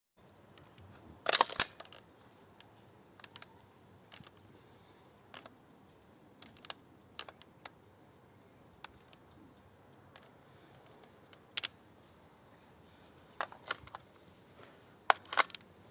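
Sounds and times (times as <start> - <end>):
light clicks of plastic parts: 0.2 - 15.9.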